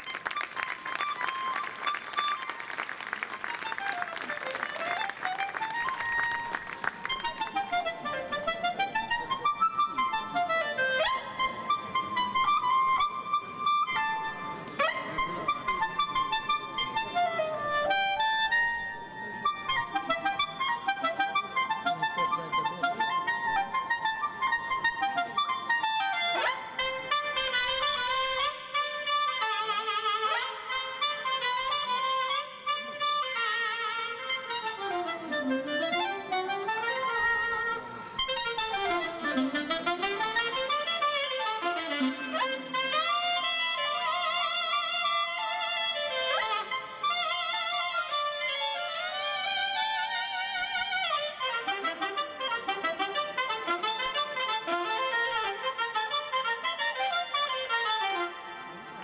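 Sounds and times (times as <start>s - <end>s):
clarinet solo: 0.0s - 59.0s.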